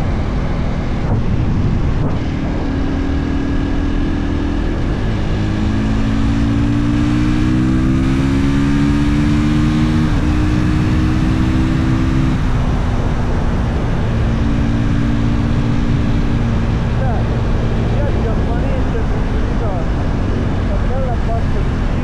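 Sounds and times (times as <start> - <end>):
wind noise: 0.0 - 22.0.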